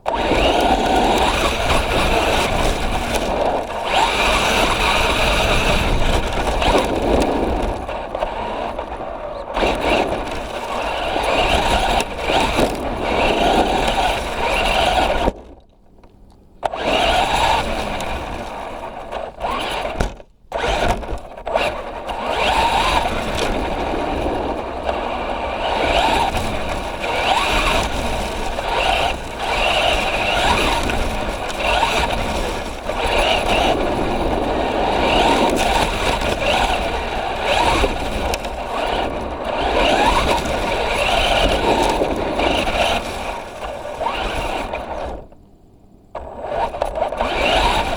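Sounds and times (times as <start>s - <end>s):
toy truck electric motor whining: 0.0s - 15.6s, 16.6s - 45.4s, 46.2s - 47.9s.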